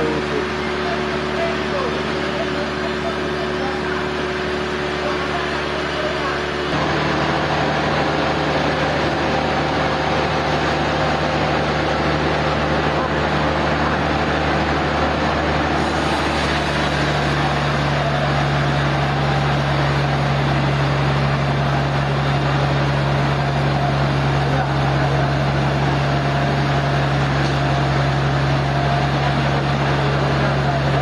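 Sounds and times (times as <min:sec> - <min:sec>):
sawmill machinery running: 0:00.0 - 0:31.0.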